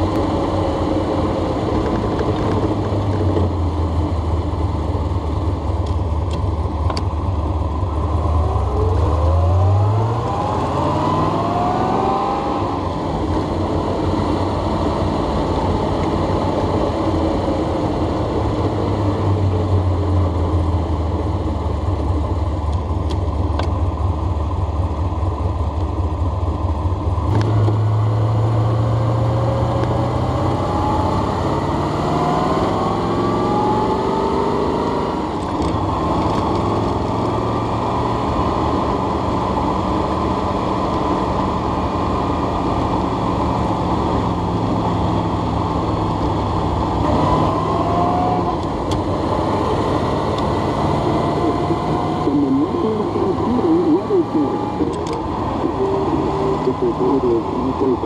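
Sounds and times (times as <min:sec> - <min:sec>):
car engine revving: 0:05.8 - 0:24.0, 0:26.9 - 0:58.0.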